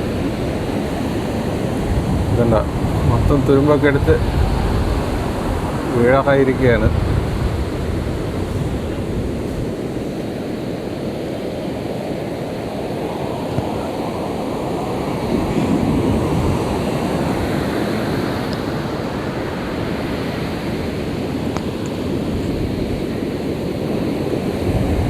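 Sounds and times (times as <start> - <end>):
sea surf washing on shore: 0.0 - 25.0.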